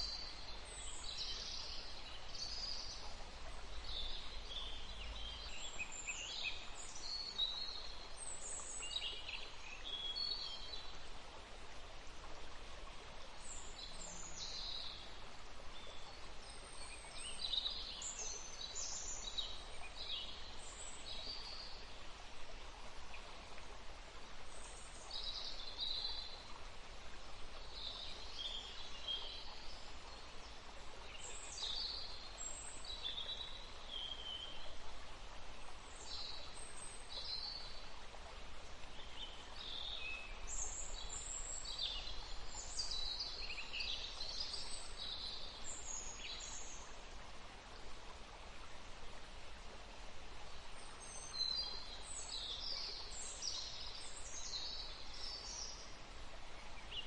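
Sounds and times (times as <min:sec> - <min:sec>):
forest stream rushing: 0:00.0 - 0:57.0.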